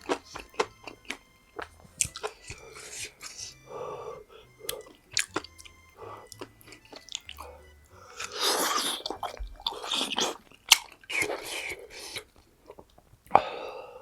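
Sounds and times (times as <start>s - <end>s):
person chewing food: 0.0s - 13.5s.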